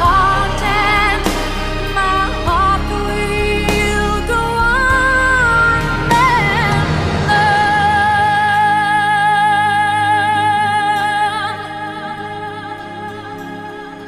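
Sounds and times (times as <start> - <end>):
held note with vibrato: 0.0 - 14.0
sustained musical accompaniment: 0.0 - 14.0.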